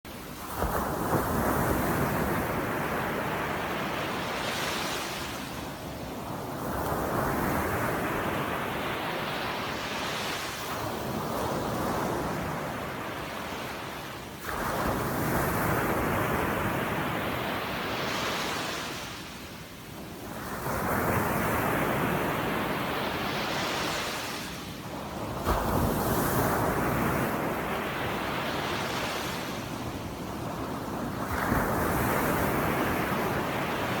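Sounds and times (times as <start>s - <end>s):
sea waves breaking on shore: 0.1s - 34.0s.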